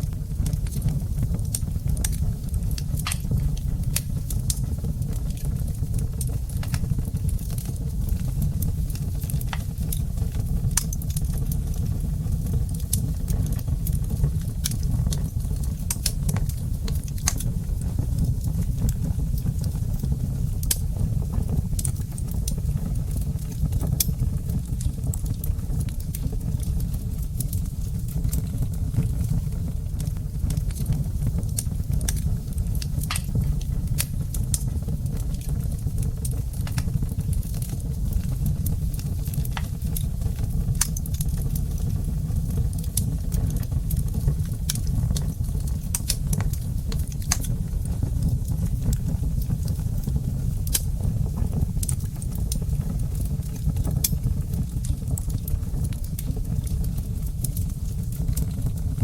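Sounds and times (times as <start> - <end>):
low fire rumble: 0.0 - 59.0
wood fire crackling and popping: 0.0 - 59.0.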